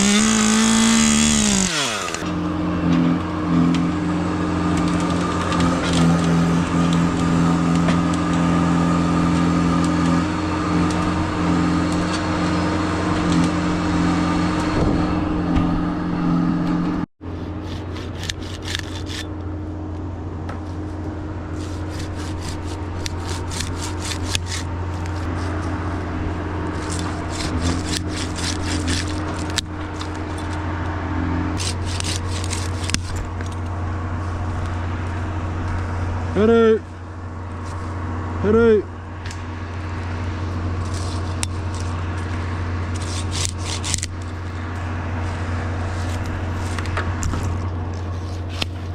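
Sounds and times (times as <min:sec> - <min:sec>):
heavy vehicle engine running: 0:00.0 - 0:48.9.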